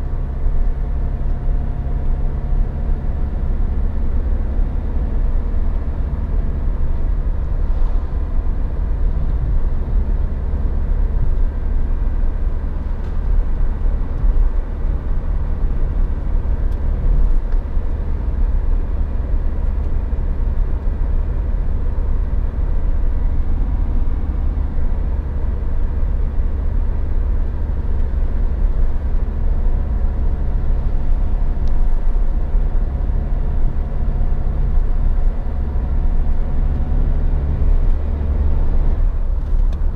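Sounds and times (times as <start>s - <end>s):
car engine drone inside cabin: 0.0s - 39.9s
road noise: 0.0s - 39.9s.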